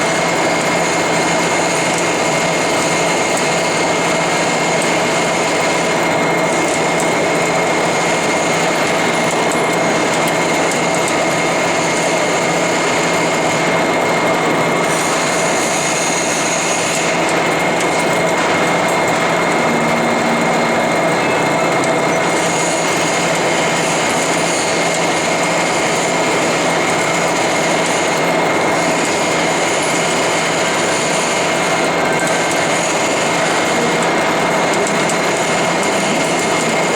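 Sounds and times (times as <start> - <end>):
lathe whining: 0.0 - 36.9.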